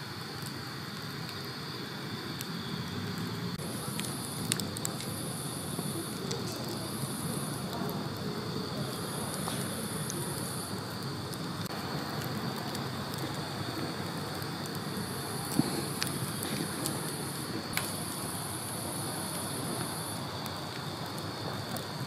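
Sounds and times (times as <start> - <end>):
fire crackling and popping: 0.0 - 22.0
rush of flame: 0.0 - 22.0
insects trilling: 3.6 - 22.0.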